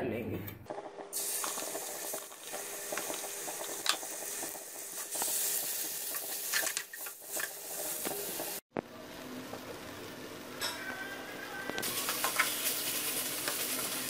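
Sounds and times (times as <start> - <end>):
chicken sizzling in hot oil: 1.1 - 14.0.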